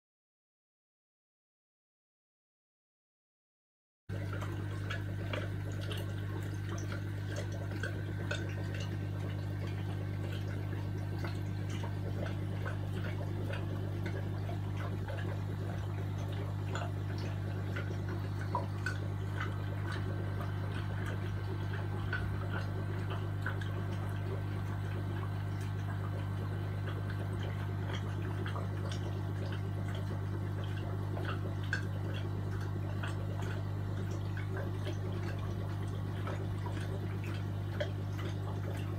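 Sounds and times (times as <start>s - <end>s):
aquarium equipment hum: 4.1s - 38.9s
small ticks and drips: 4.1s - 38.9s
water trickling: 4.1s - 38.9s.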